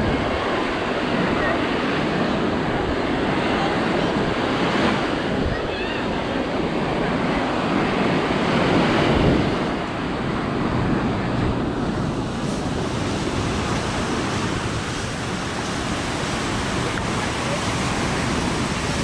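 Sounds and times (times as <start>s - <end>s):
surf washing onto sand: 0.0s - 19.0s
wind buffeting microphone: 0.0s - 19.0s.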